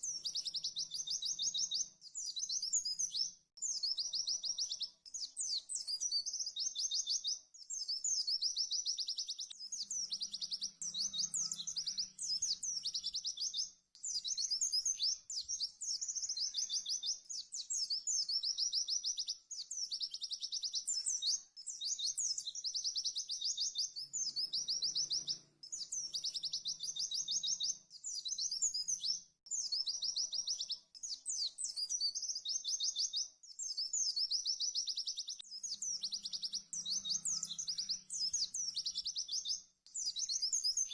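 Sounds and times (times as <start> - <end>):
bird singing trilled phrases: 0.0 - 40.9.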